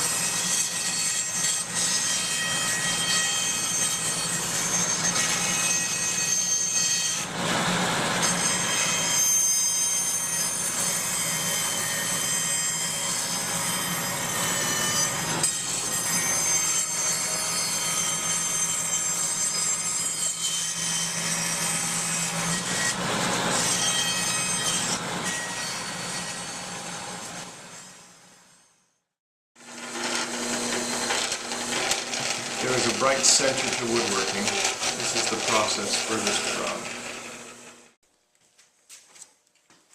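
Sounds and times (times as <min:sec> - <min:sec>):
power tool cutting wood: 0:00.0 - 0:28.0, 0:29.6 - 0:38.0.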